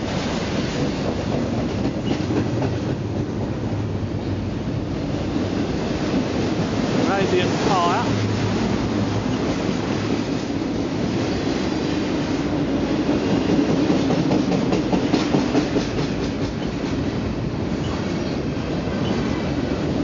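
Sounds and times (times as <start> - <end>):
freight train rumble: 0.0 - 20.0
wheels clacking over rail joints: 0.1 - 4.4, 5.0 - 20.0.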